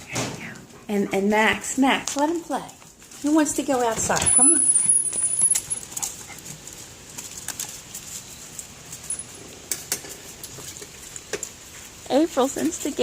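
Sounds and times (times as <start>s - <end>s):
dogs clicking and scuffling: 0.0s - 13.0s.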